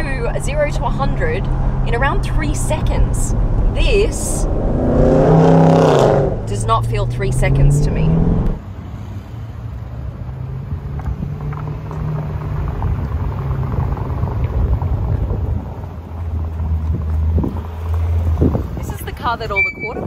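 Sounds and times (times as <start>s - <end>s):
car engine low drone: 0.0s - 19.7s.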